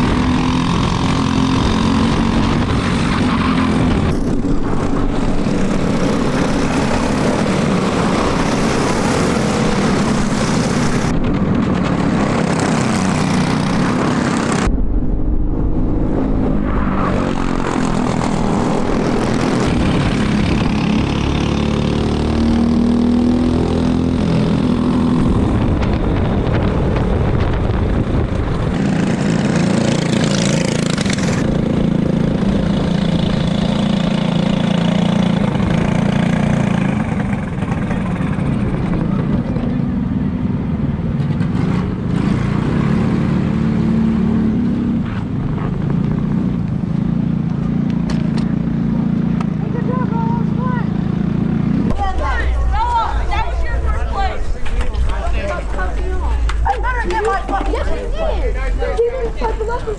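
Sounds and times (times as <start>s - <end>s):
kart engines racing: 0.0s - 14.7s, 16.2s - 59.9s.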